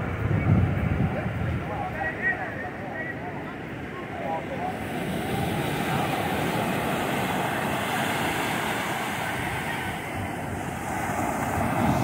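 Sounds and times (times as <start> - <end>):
wind rumbling on microphone: 0.0 - 2.8, 3.7 - 12.0
ocean surf breaking: 0.0 - 12.0.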